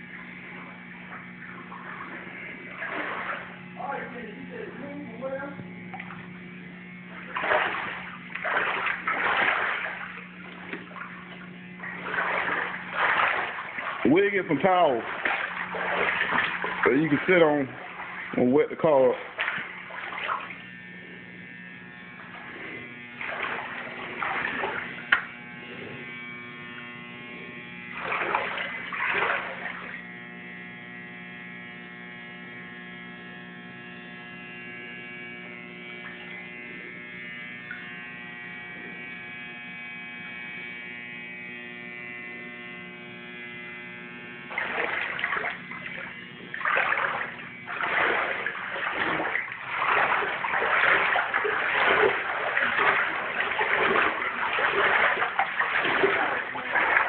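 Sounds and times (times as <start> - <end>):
footsteps splashing through water: 0.0 - 30.4, 35.6 - 38.2, 44.1 - 57.0
steady electrical hum: 0.0 - 57.0.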